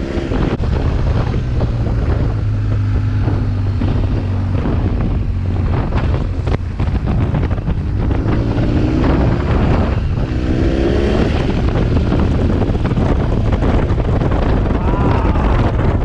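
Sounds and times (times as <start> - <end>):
motorcycle engine running: 0.0 - 16.0
wind rushing over microphone: 0.0 - 16.0.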